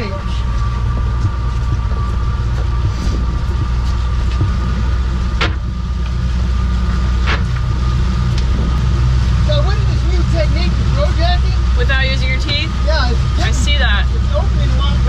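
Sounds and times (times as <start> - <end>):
outboard engine running: 0.0 - 15.0.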